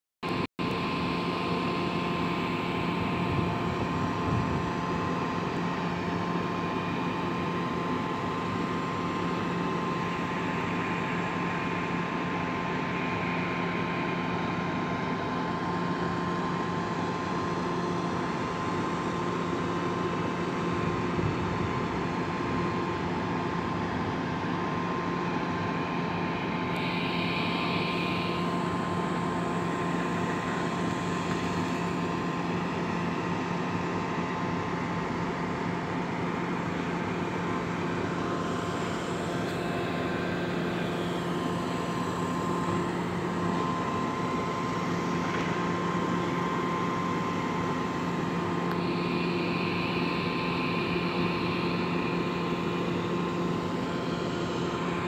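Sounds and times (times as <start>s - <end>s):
steady high whine: 0.2s - 55.0s
crane diesel engines droning: 0.3s - 55.0s.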